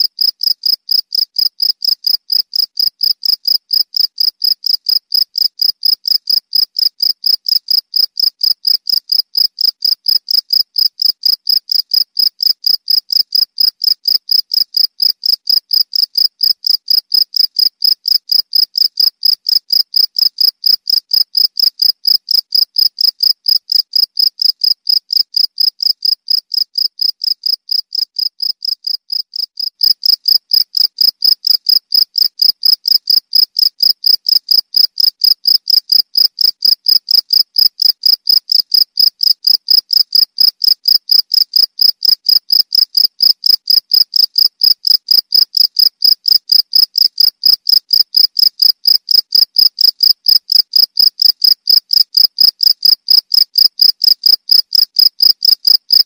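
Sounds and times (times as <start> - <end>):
cricket chirping: 0.2 - 56.0.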